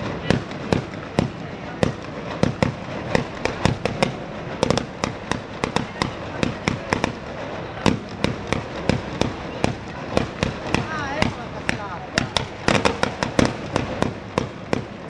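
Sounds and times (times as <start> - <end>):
constant crackling: 0.0 - 15.0
sharp mortar bangs: 0.0 - 15.0.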